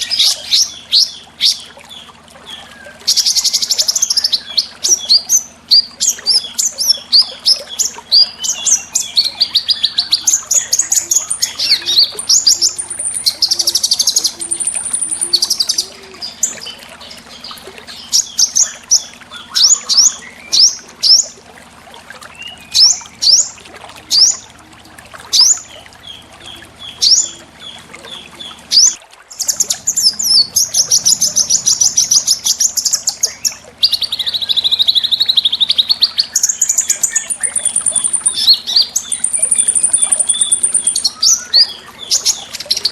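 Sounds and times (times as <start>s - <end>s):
piercing downward bird notes: 0.0s - 21.4s, 22.2s - 42.9s
songbirds trilling: 0.0s - 42.9s.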